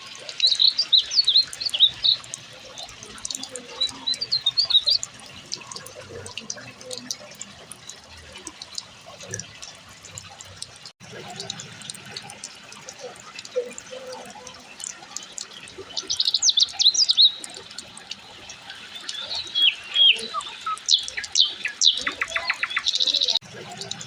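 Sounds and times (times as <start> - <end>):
birds chirping and trilling: 0.0 - 9.7, 13.0 - 24.0
faint rush of water: 0.0 - 24.0.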